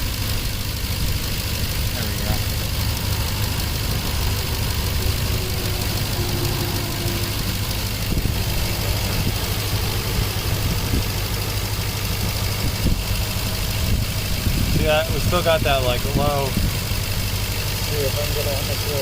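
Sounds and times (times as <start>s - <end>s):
misfiring engine idling: 0.0s - 19.0s.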